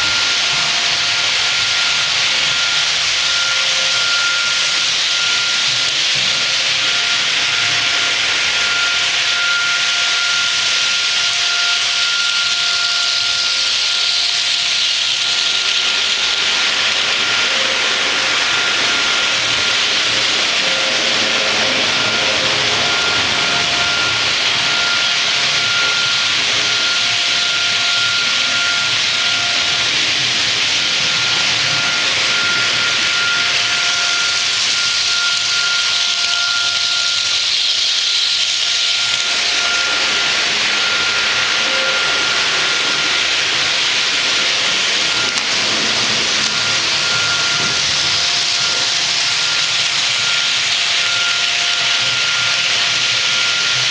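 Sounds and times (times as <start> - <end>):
faint whine: 0.0 - 14.4, 15.2 - 53.8
model train rolling on track: 0.0 - 53.9.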